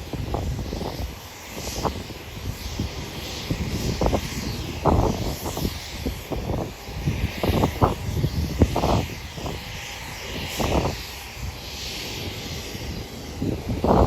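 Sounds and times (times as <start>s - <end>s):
jet engine rushing hiss: 0.0s - 14.0s
wind buffeting microphone: 0.0s - 14.0s.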